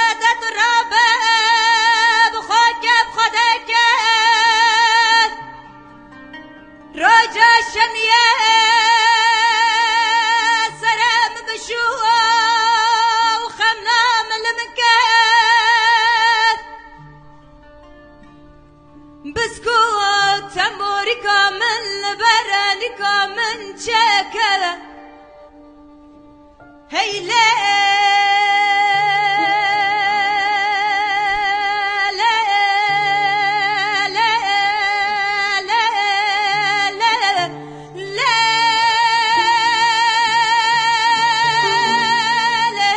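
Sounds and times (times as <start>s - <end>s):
woman singing folk song: 0.0s - 42.9s.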